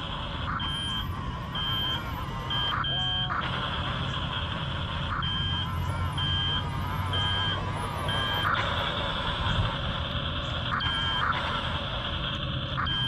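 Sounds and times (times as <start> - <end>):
high reversing beeps: 0.0 - 13.0
low engine hum: 0.0 - 13.0
toy bulldozer motors and tracks: 0.0 - 13.0.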